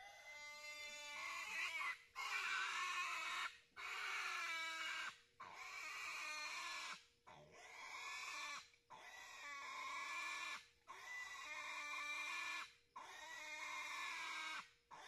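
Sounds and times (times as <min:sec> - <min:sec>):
piglet squealing: 0:00.1 - 0:15.0.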